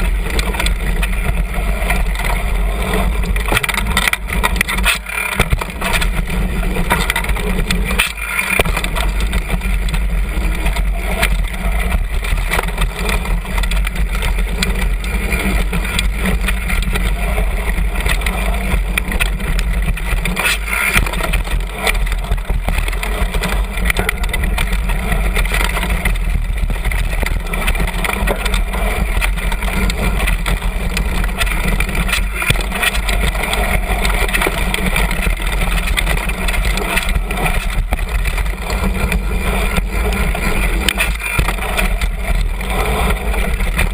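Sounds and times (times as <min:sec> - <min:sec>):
mountain bike rattling over dirt: 0:00.0 - 0:43.9.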